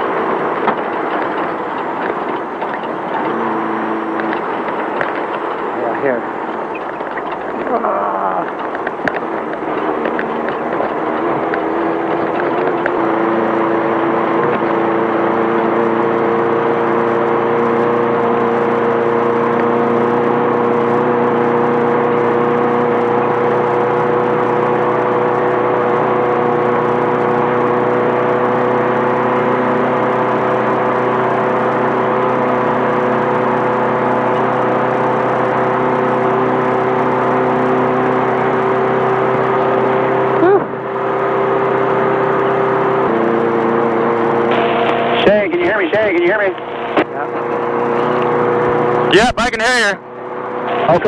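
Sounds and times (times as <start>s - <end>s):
air-cooled car engine running: 0.0s - 51.0s
road and rattle noise: 0.0s - 51.0s.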